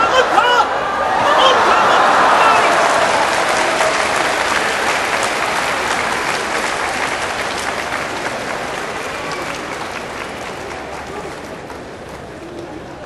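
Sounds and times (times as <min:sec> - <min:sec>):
crowd applauding: 0:01.0 - 0:13.0.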